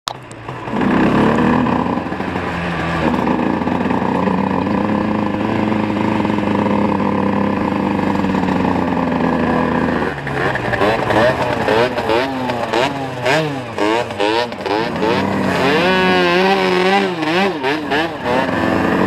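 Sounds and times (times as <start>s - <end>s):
moped engine accelerating: 0.1s - 19.0s.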